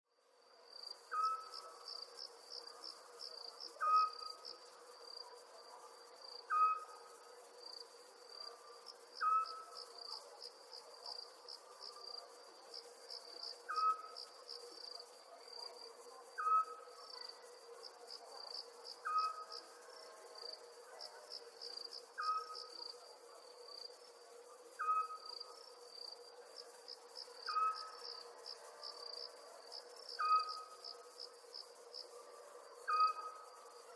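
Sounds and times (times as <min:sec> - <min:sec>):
crickets chirping: 0:00.3 - 0:33.9.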